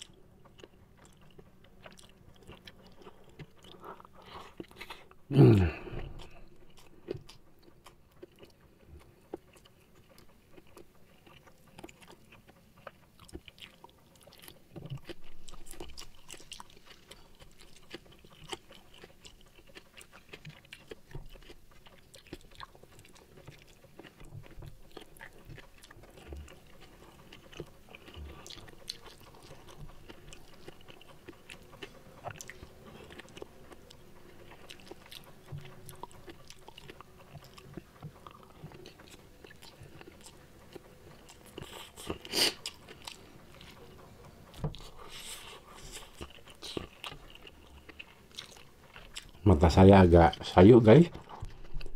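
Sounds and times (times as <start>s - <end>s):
man chewing food: 0.0s - 51.9s.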